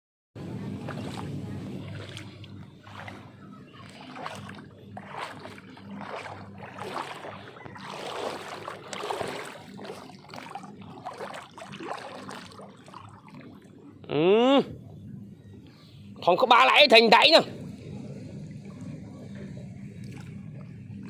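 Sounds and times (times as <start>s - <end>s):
water sloshing and splashing: 0.4s - 14.0s, 17.2s - 21.0s
faint low hum: 0.4s - 21.0s.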